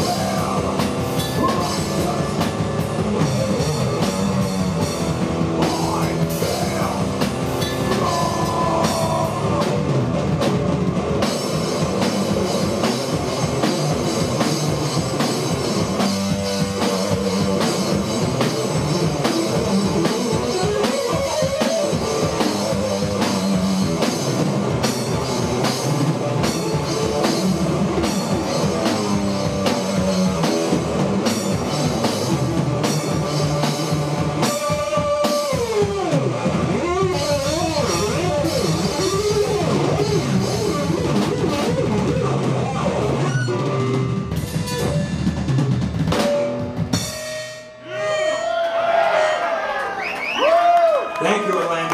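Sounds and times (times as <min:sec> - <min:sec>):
electric guitar: 0:00.0 - 0:47.2
drum kit: 0:00.0 - 0:48.4.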